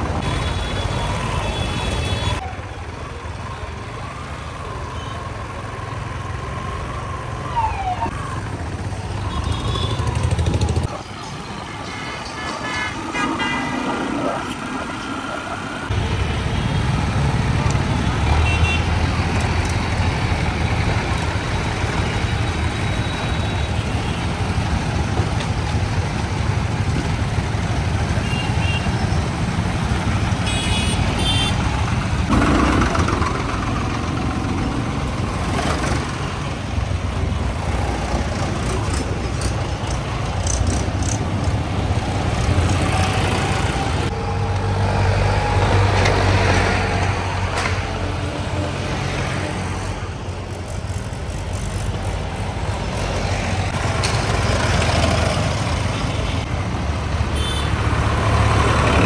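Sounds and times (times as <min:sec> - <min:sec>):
tractor engines running: 0:00.0 - 0:59.0.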